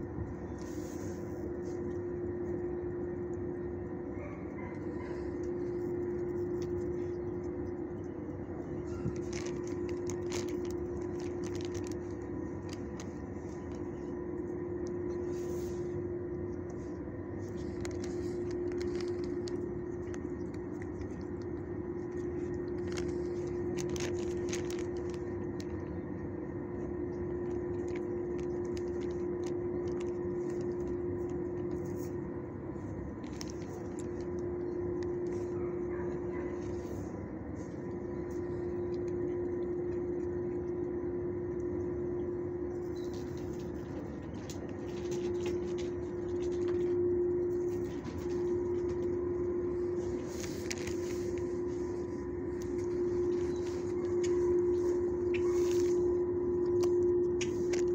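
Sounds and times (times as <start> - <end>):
steady machine hum: 0.0 - 57.9
plastic bag crinkling: 4.7 - 40.6, 42.6 - 57.9.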